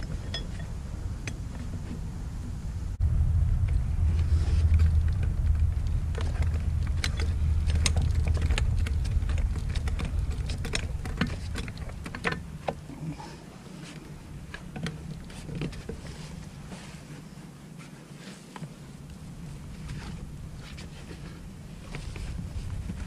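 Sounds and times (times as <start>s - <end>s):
low rumble: 0.0s - 17.1s, 19.0s - 23.0s.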